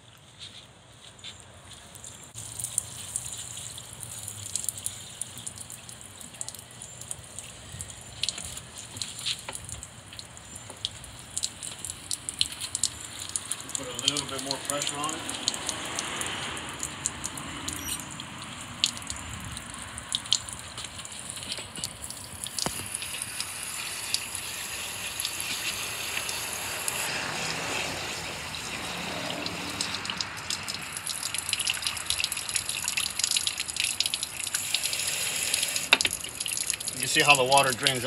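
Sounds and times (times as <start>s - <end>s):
water dripping: 1.9s - 38.0s
water spray hissing: 2.3s - 6.5s, 10.8s - 19.2s, 19.8s - 38.0s.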